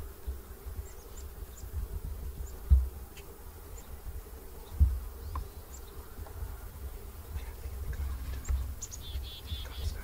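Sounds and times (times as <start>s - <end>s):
insect buzzing: 0.0s - 10.0s.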